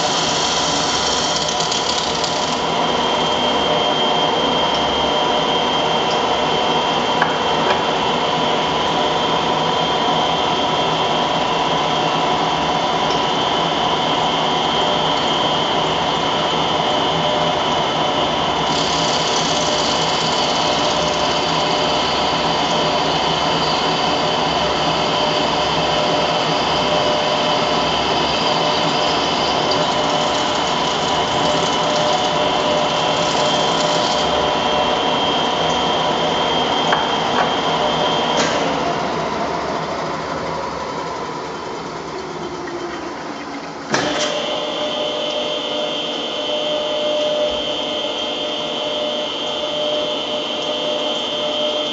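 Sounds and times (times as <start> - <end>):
lathe motor whine: 0.0 - 51.9.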